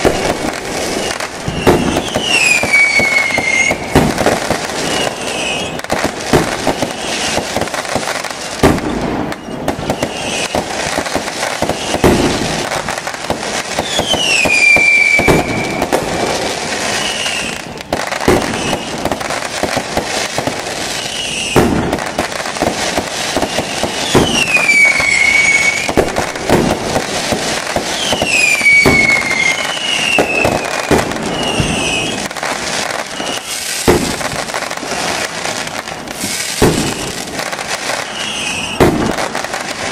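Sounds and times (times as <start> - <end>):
firework bangs and crackles: 0.0 - 39.9
whistling firework shells: 0.0 - 39.9.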